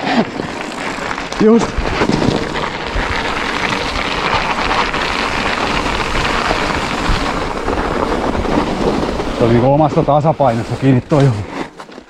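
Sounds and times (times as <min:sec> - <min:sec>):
bike rattles and knocks: 0:00.0 - 0:12.0
bike tyre noise on trail: 0:00.0 - 0:12.0.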